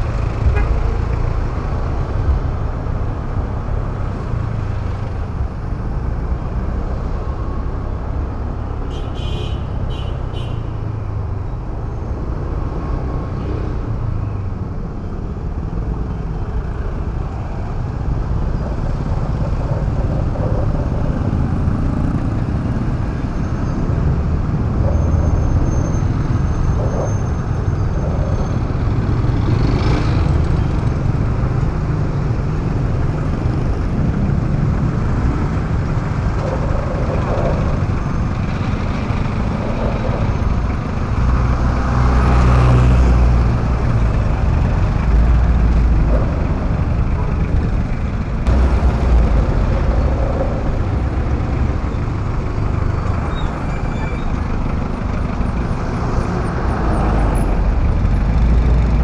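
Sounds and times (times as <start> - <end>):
road and wind noise: 0.0 - 59.0
surrounding traffic: 0.0 - 59.0.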